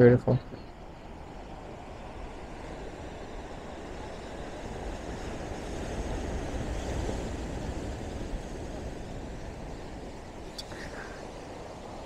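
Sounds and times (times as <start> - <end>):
surf washing against rocks: 1.1 - 12.0.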